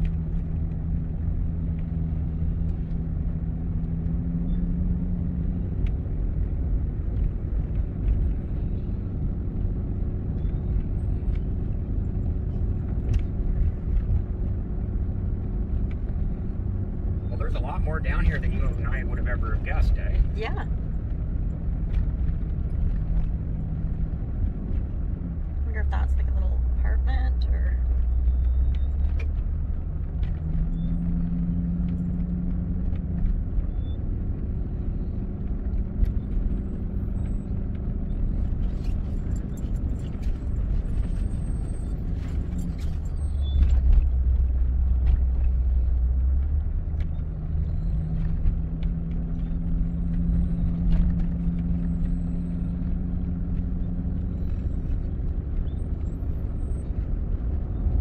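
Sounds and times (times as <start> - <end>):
truck engine and tyres rumbling: 0.0 - 58.0.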